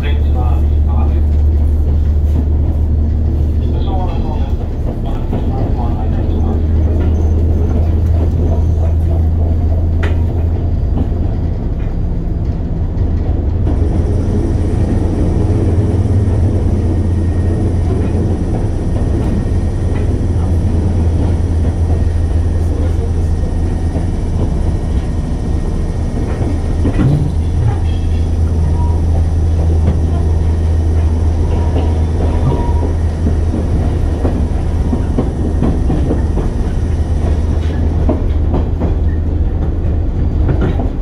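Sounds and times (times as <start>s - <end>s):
train rumble and hum: 0.0s - 41.0s.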